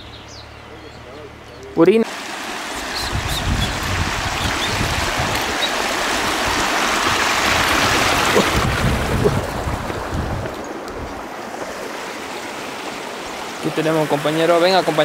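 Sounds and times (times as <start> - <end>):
stream rushing over rocks: 2.0 - 15.0.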